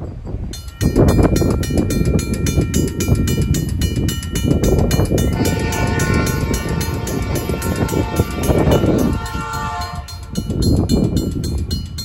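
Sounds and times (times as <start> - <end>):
crossing bell ringing: 0.0 - 12.0
held chord of steady tones: 0.3 - 12.0.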